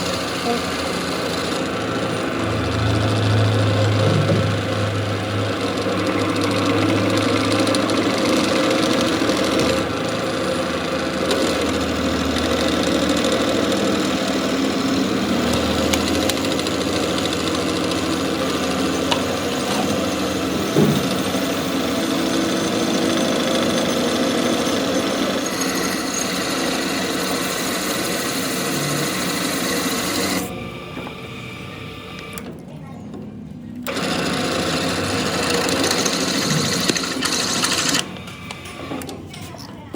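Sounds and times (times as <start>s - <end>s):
workshop machine running: 0.0s - 39.9s.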